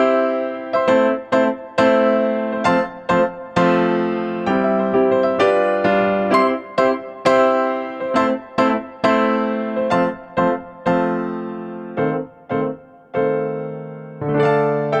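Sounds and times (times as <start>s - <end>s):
piano notes ringing: 0.0s - 15.0s.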